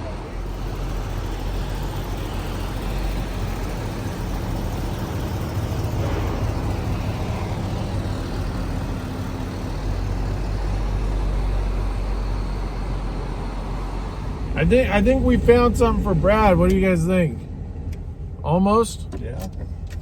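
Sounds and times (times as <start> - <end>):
vehicle engine low rumble: 0.0 - 20.0.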